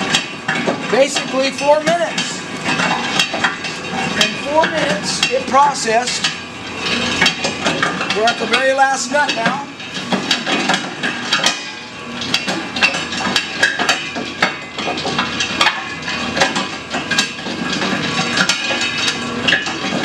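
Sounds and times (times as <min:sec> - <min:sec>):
machine humming: 0:00.0 - 0:20.0
nuts clattering in machine: 0:00.0 - 0:20.0.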